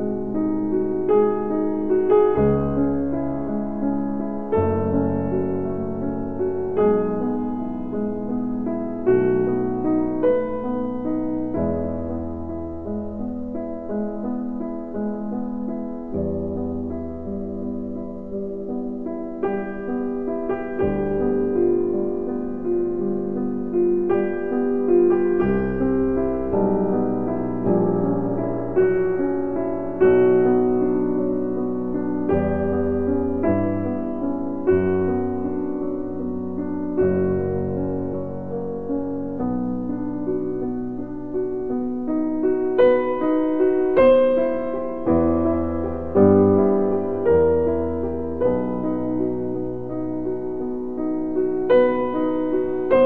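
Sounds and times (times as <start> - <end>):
slow piano music: 0.0 - 53.0.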